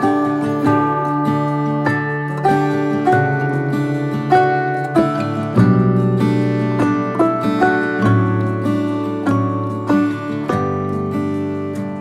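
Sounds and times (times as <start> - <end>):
plucked-string instrumental music: 0.0 - 12.0.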